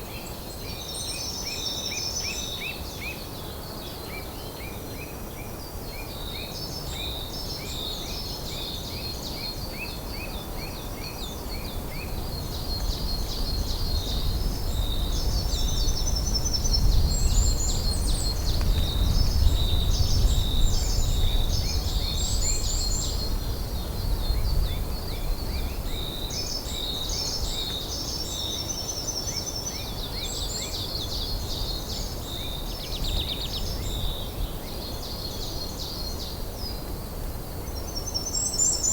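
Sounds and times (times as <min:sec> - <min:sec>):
songbirds trilling and chirping: 0:00.0 - 0:36.8.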